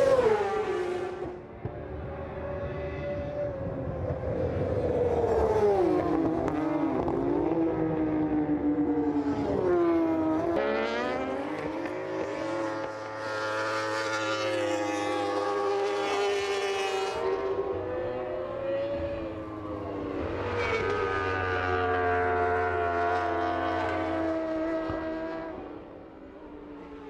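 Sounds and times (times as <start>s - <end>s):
racing motorbike engines revving: 0.0s - 25.8s.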